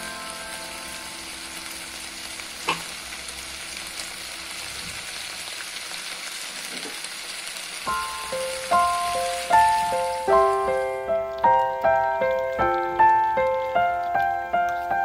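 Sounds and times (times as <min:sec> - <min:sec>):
curry sizzling in frying pan: 0:00.0 - 0:15.0.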